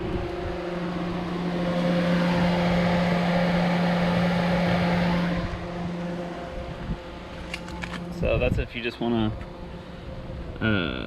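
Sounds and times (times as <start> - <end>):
electric cooling fans humming: 0.0 - 11.0.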